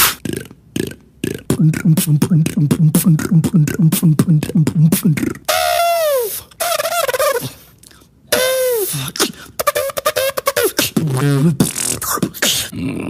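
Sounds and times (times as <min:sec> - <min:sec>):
beatboxing vocal effects: 0:00.0 - 0:13.0.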